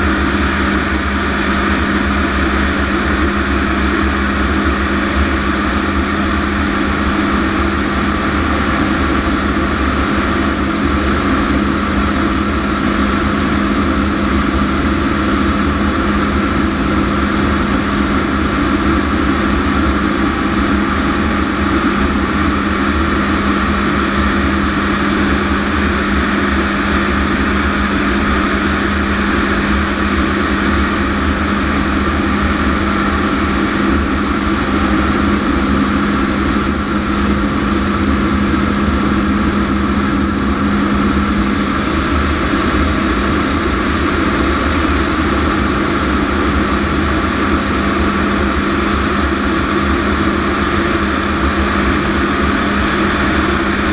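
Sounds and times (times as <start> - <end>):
constant low hum: 0.0 - 53.9
jet engine in cockpit: 0.0 - 53.9.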